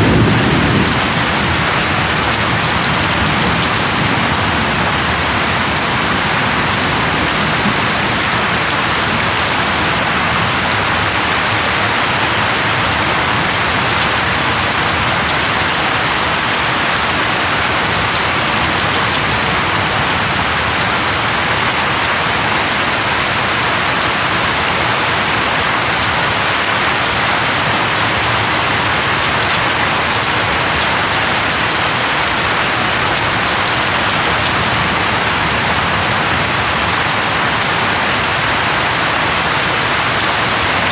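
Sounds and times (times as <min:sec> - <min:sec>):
loud rainfall pattering: 0:00.0 - 0:40.9.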